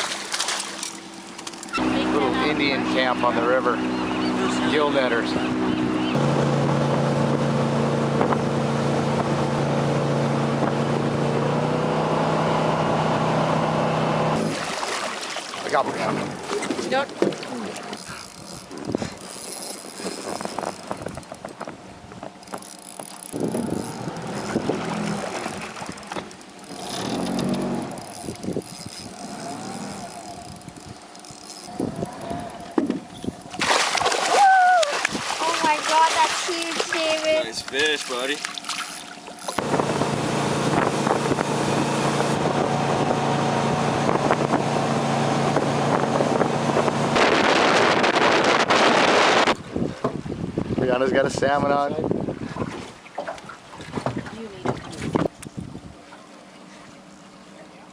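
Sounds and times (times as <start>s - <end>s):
boat motor running: 0.0s - 57.9s
water noise: 0.0s - 57.9s
wind: 0.0s - 57.9s.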